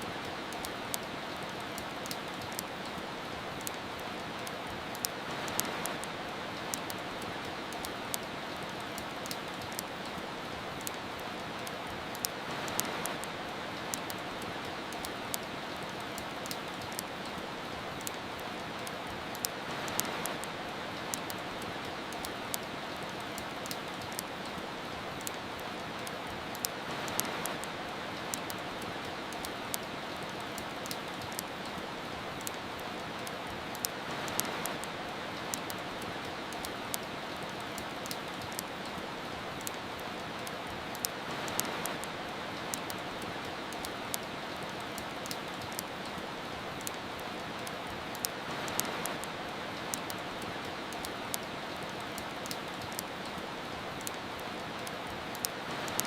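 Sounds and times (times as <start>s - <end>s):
soft rain: 0.0s - 56.0s
wood fire crackling: 0.0s - 56.0s.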